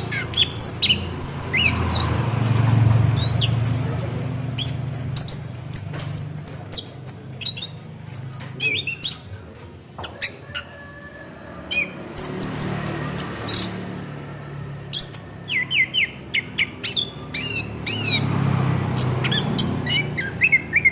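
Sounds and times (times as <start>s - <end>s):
thrush singing: 0.0s - 9.4s, 10.2s - 20.9s.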